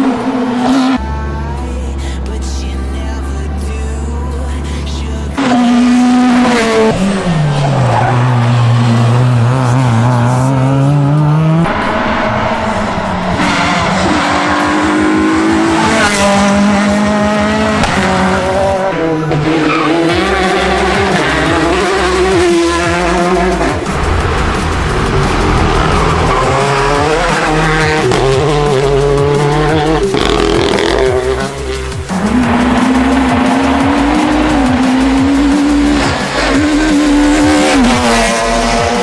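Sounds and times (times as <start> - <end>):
rally car engines revving: 0.0 - 39.0.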